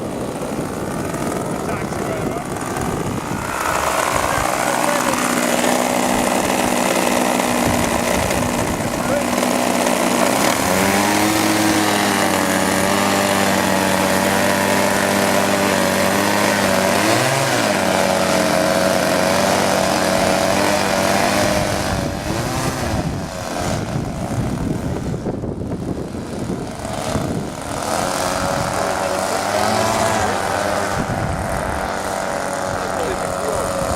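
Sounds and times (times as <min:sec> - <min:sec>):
model plane engines at high revs: 0:00.0 - 0:33.9.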